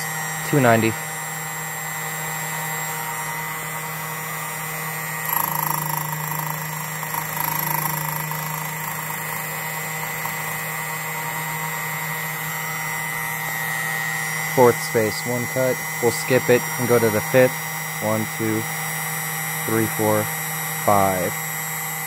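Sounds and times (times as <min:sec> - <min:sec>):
machine motor humming and whining: 0:00.0 - 0:22.0
rotary cutter cutting a key: 0:00.0 - 0:22.0.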